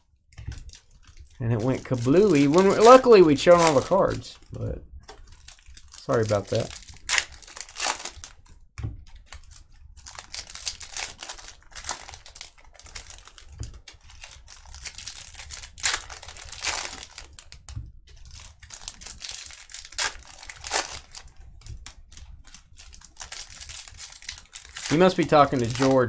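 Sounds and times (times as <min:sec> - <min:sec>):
card pack wrappers crinkling: 0:00.5 - 0:08.5, 0:09.3 - 0:26.0.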